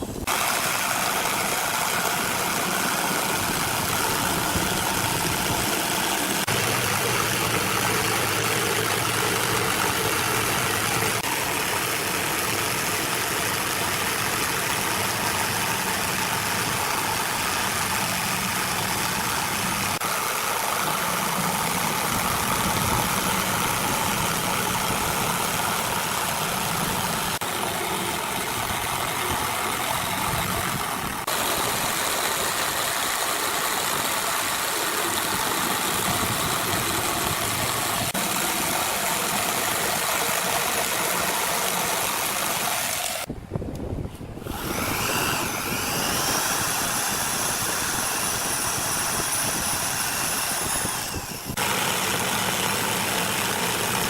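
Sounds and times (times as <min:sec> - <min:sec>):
power tool running: 0:00.0 - 0:43.3, 0:44.4 - 0:54.0.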